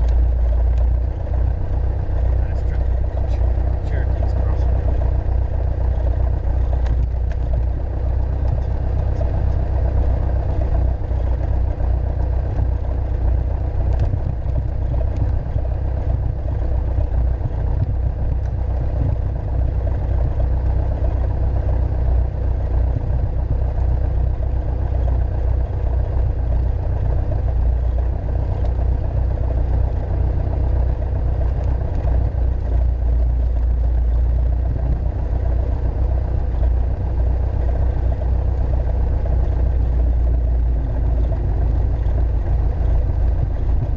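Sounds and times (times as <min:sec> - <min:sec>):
small plane engine and propeller: 0:00.0 - 0:43.9.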